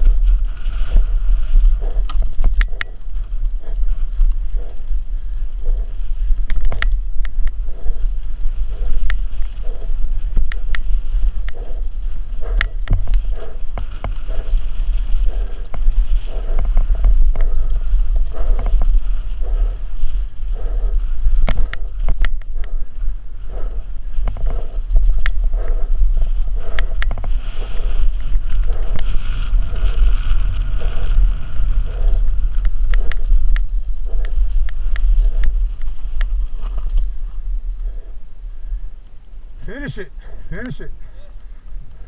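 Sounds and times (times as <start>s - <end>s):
bike clicks and rattles: 0.0s - 37.2s
wind buffeting microphone: 0.0s - 42.0s.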